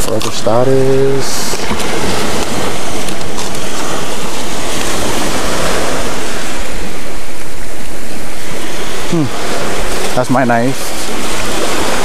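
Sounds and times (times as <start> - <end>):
small waves breaking on sand: 0.0 - 12.0
wind buffeting microphone: 0.0 - 12.0.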